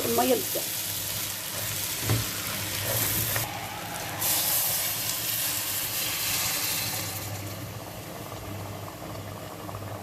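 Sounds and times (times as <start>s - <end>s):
hot pot hissing and sizzling: 0.0s - 10.0s.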